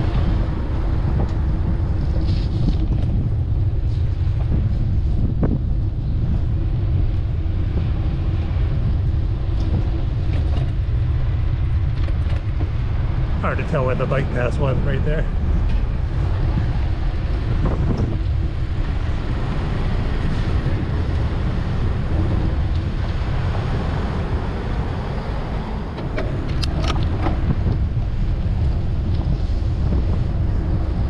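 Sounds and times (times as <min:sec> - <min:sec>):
city traffic: 0:00.0 - 0:31.0
wind buffeting microphone: 0:00.0 - 0:31.0.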